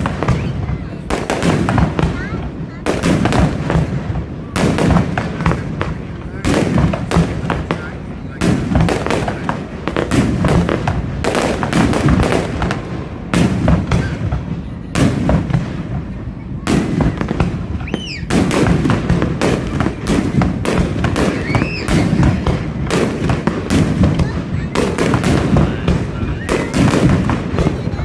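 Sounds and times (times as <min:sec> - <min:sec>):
fireworks crackling: 0:00.0 - 0:28.0
fireworks whistling: 0:00.0 - 0:28.0.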